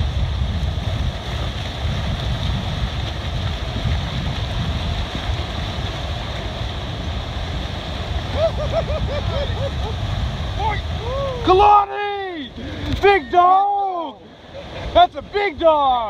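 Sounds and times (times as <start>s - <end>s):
ocean surf washing up beach: 0.0s - 16.0s
wind buffeting microphone: 0.0s - 16.0s.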